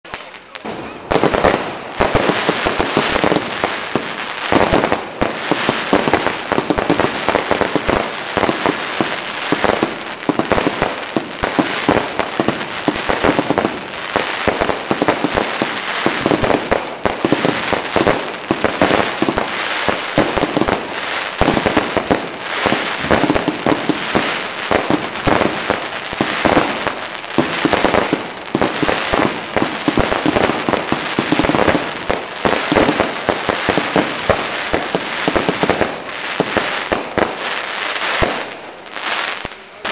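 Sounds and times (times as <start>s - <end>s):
fireworks firing rapid shots: 0.1s - 39.9s.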